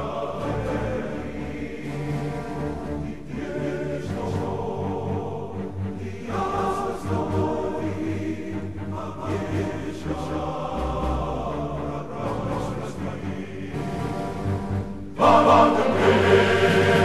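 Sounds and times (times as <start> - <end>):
choir singing chant-like chords: 0.0 - 17.0
low bass notes: 0.0 - 17.0.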